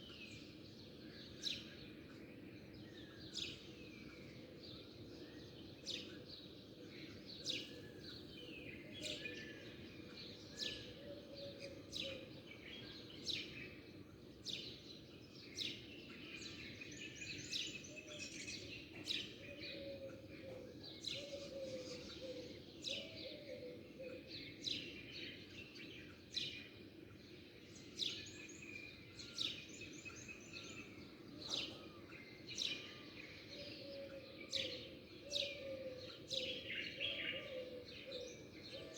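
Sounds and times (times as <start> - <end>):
low background noise: 0.0 - 38.9
small birds chirping: 5.0 - 38.9.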